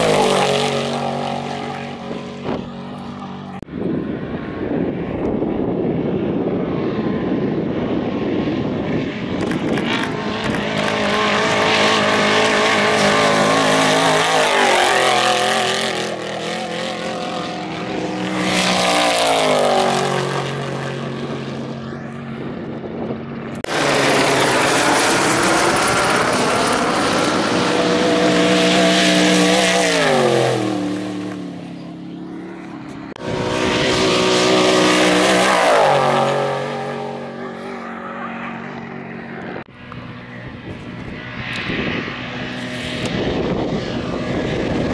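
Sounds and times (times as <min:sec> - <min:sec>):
trucks racing past at high revs: 0:00.0 - 0:44.9.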